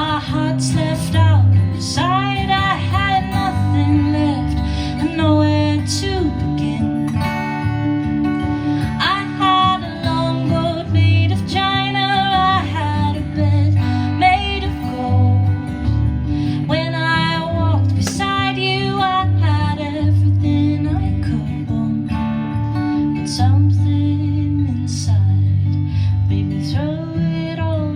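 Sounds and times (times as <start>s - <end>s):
acoustic guitar strumming: 0.0s - 27.9s
woman singing: 0.0s - 27.9s.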